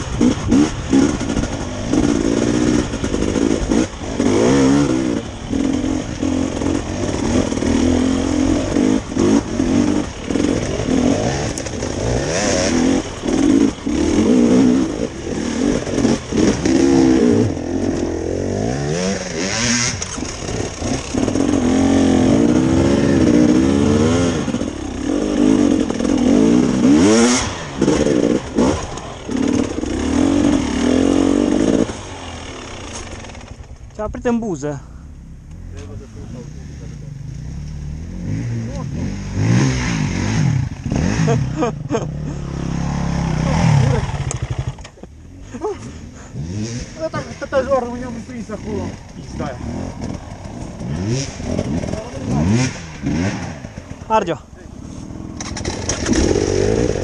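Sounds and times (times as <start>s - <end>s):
dirt bike engine revving: 0.0s - 34.1s, 35.1s - 57.0s.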